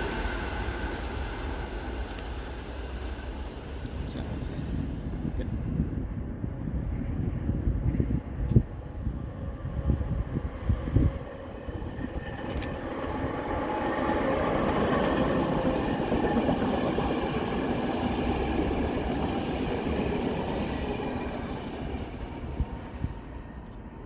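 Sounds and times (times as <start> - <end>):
passenger train passing: 0.0 - 24.0
wind buffeting microphone: 0.0 - 24.0.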